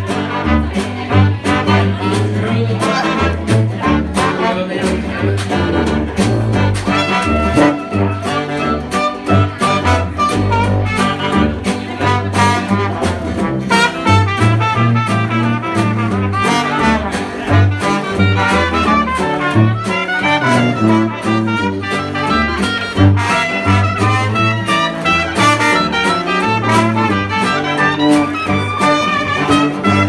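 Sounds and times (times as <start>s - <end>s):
jazz band playing: 0.0s - 30.0s.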